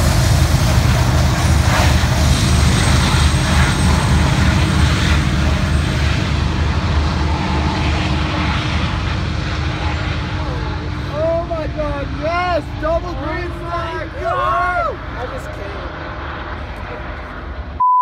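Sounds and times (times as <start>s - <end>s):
diesel locomotive engine rumbling: 0.0s - 17.8s.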